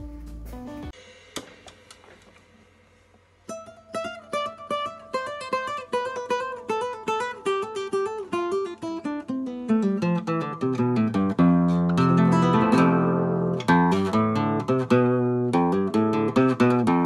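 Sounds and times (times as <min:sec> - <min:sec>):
acoustic guitar plucked melody: 0:00.0 - 0:01.0, 0:03.5 - 0:17.0.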